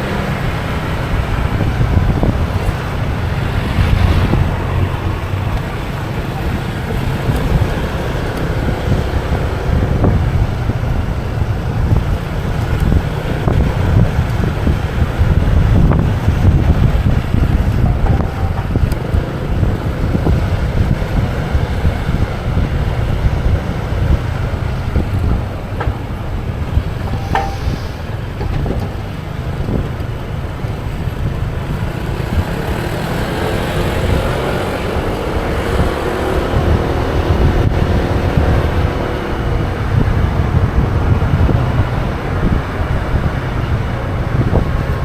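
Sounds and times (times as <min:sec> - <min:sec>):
engine hum: 0:00.0 - 0:45.0
road noise: 0:00.0 - 0:45.0
wind rumbling on microphone: 0:00.0 - 0:45.0.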